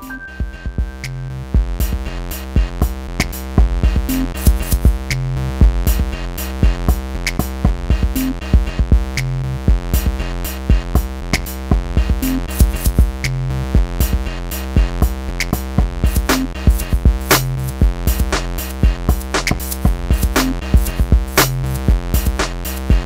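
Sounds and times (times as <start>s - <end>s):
electronic music with drum machine: 0.0s - 23.0s.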